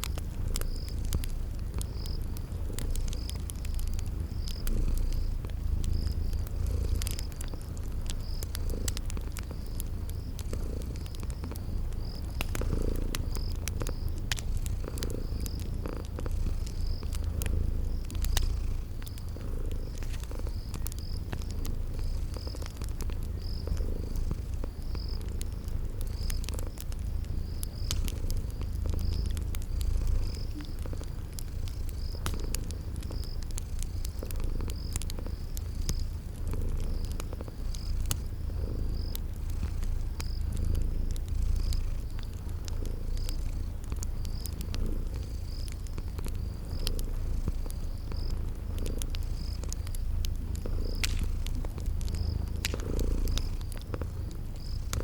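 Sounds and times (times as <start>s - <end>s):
cat purring: 0.0s - 55.0s
cricket chirping: 0.0s - 55.0s
wood fire crackling: 0.0s - 55.0s.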